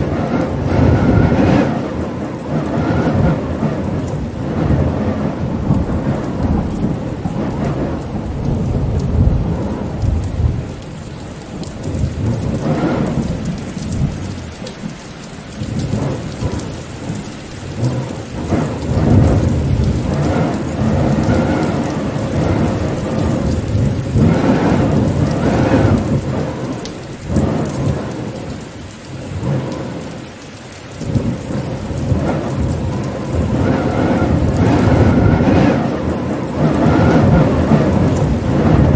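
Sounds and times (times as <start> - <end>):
deep thunder rumbles: 0.0 - 30.4, 31.0 - 38.9
heavy rain: 0.0 - 38.9.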